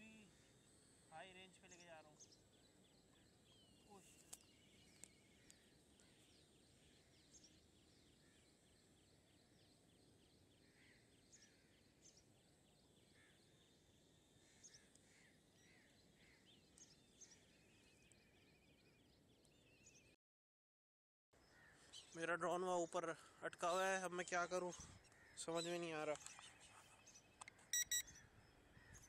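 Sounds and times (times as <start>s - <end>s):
faint bird chirps and trills: 0.0s - 20.2s, 21.4s - 29.0s.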